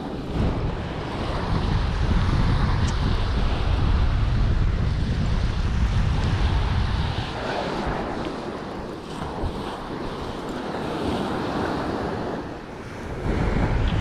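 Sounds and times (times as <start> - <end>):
surf on beach: 0.0 - 14.0
wind buffeting microphone: 0.0 - 14.0.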